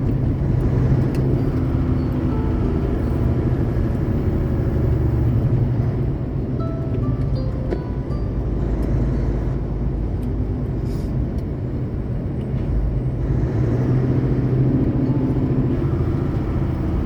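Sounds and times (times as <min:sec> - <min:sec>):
road noise: 0:00.0 - 0:17.0
truck engine rumble: 0:00.0 - 0:17.0.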